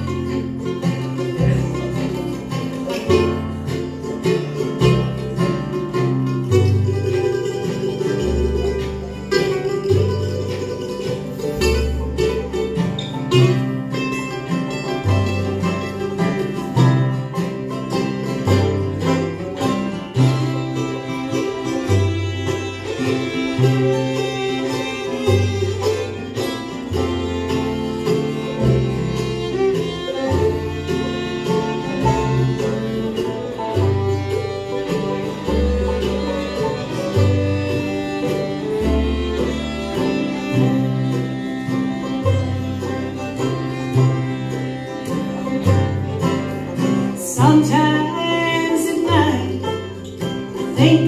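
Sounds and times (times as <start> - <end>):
acoustic guitar: 0.0 - 51.0
banjo: 0.0 - 51.0
fiddle: 0.0 - 51.0
mandolin: 0.0 - 51.0
upright bass: 0.0 - 51.0.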